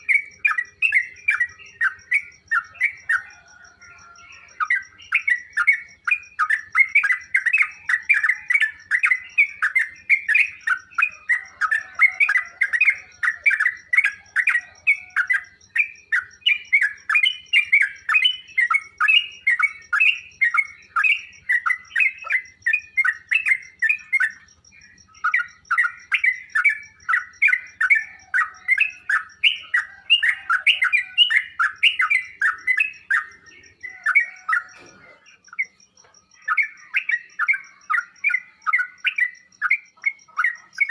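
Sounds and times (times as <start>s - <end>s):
bird singing chirping notes: 0.0s - 40.9s
faint steady high tone: 0.0s - 40.9s.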